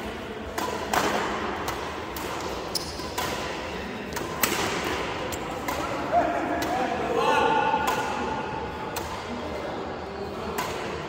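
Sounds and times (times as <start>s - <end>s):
steady background noise: 0.0s - 11.0s
rackets hitting shuttlecock: 0.4s - 7.0s, 7.6s - 9.4s, 10.3s - 11.0s.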